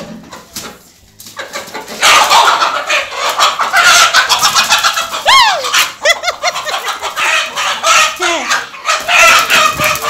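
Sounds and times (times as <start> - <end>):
chicken clucking: 0.0 - 10.0
chicken scuffling and rustling: 0.2 - 5.2, 6.7 - 10.0
chicken squawk: 1.4 - 10.0.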